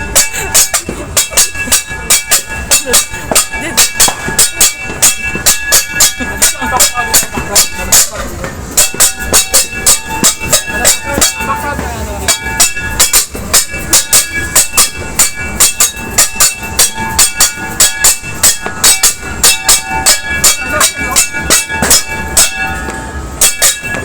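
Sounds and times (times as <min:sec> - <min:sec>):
metal clanging: 0:00.0 - 0:24.0.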